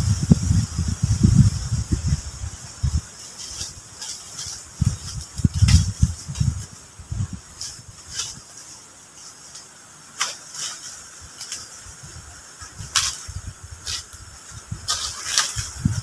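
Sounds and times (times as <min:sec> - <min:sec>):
footsteps on dry leaves and twigs: 0:01.7 - 0:16.0.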